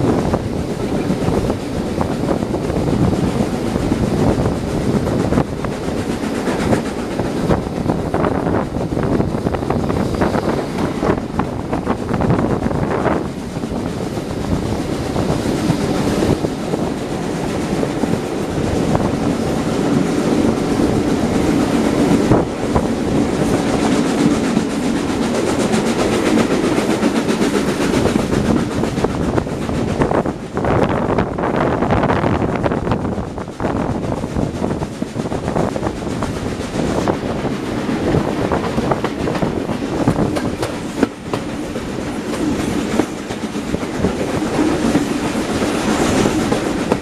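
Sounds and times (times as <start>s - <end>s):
train wheels on rails: 0.0s - 47.0s
wind at window: 0.0s - 47.0s.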